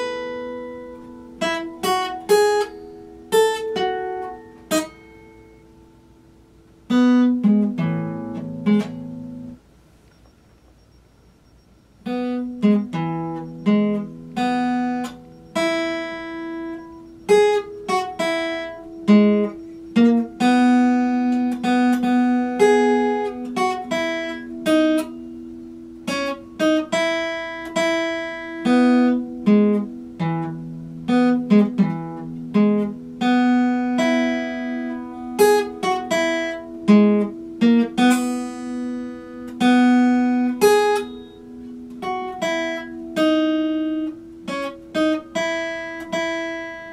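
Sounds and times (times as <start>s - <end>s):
acoustic guitar plucked melody: 0.0s - 46.9s.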